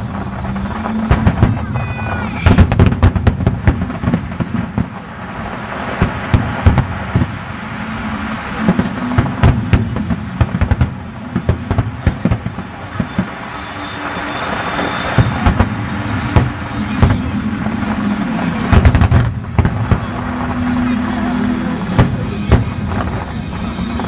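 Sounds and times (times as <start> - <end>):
fireworks bangs and pops: 0.0 - 24.0.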